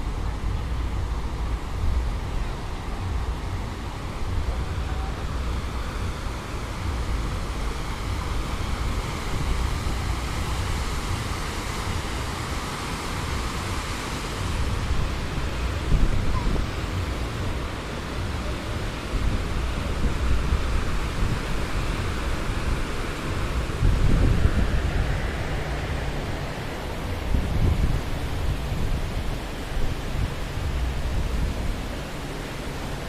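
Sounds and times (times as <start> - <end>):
passing traffic: 0.0 - 33.0
wind rumble on microphone: 0.0 - 33.0.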